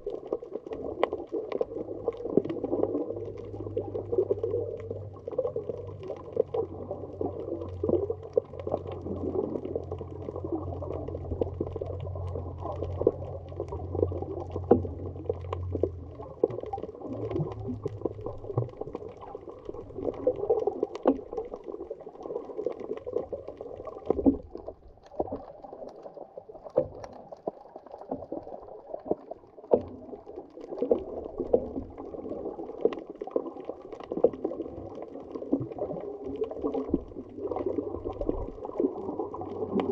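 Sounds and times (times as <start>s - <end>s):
sharp clicks and crackles: 0.0s - 39.9s
water sloshing underwater: 0.0s - 39.9s.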